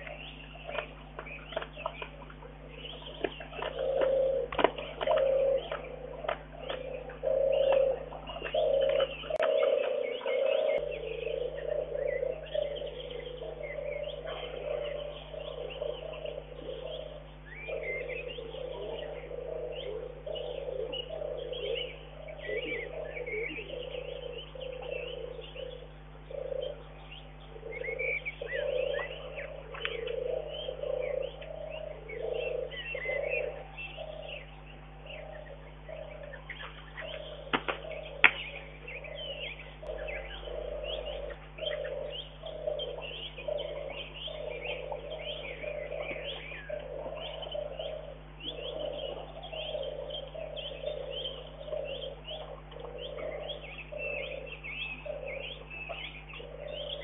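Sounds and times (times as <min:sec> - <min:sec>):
doves cooing: 0:00.0 - 0:57.0
small birds chirping: 0:00.0 - 0:57.0
steady low hum: 0:00.0 - 0:57.0.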